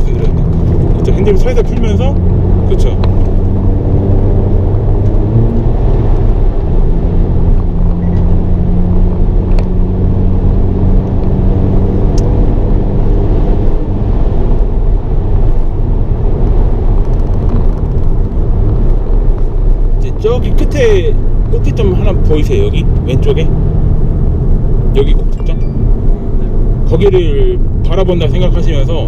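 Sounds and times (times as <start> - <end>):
car engine running: 0.0 - 29.0
tyre and road noise: 0.0 - 29.0.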